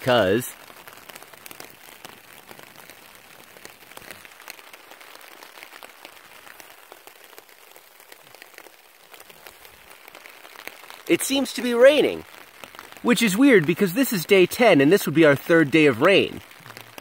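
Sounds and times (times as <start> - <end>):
rain pattering on a tarp: 0.0 - 17.0.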